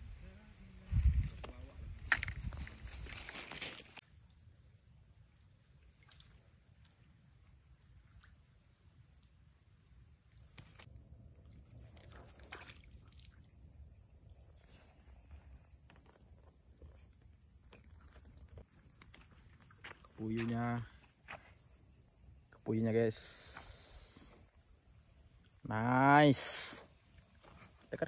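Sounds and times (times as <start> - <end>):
high insect hum: 0.0 - 28.0.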